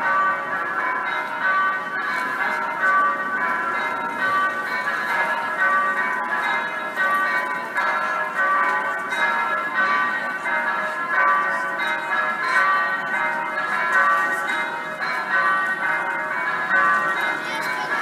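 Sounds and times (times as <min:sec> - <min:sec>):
electronic church bells pealing: 0:00.0 - 0:18.0.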